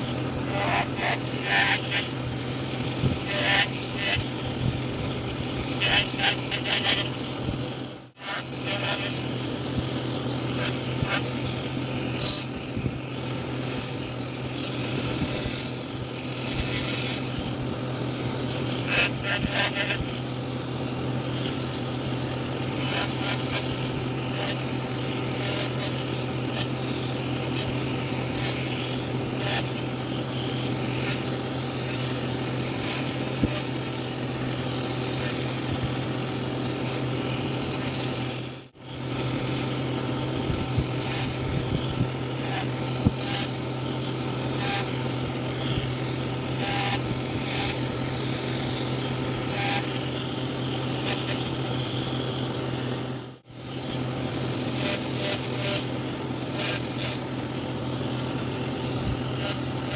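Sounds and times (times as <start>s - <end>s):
constant low hum: 0.0s - 59.9s.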